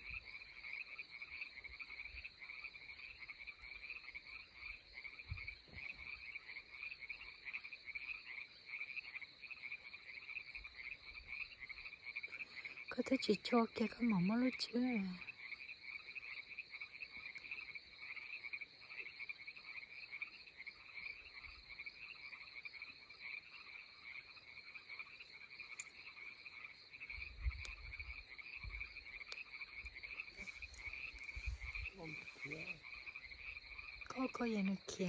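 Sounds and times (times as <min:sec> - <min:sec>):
frogs trilling: 0:00.0 - 0:35.0.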